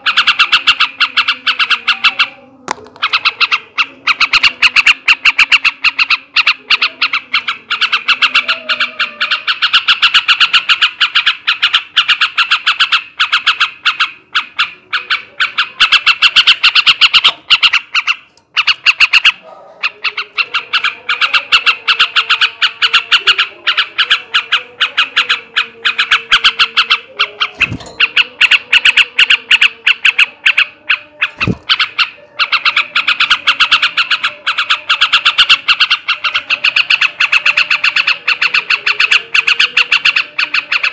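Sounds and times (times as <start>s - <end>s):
bird chattering trill: 0.0s - 40.9s.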